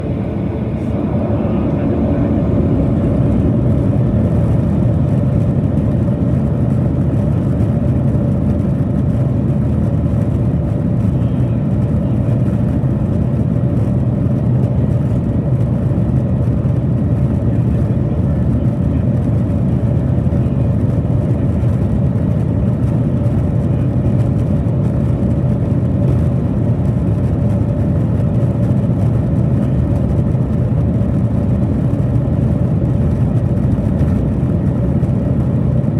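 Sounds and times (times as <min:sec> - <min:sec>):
jet engines rumbling in cabin: 0:00.0 - 0:35.9.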